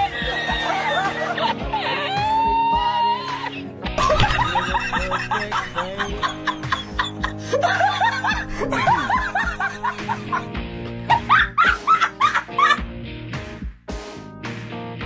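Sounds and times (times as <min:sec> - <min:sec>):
person laughing: 0:00.0 - 0:10.5, 0:11.1 - 0:12.8
background music: 0:00.0 - 0:15.0.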